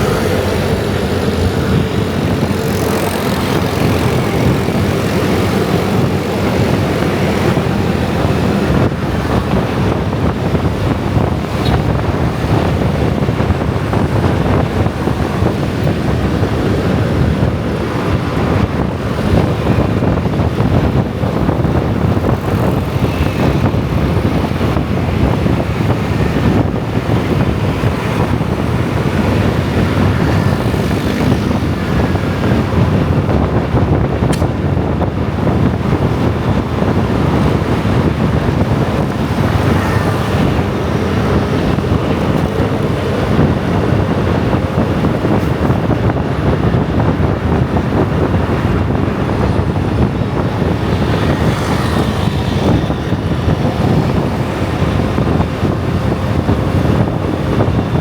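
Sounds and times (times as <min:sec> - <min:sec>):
scooter traffic rumble: 0:00.0 - 0:58.0
wind buffeting microphone: 0:00.0 - 0:58.0.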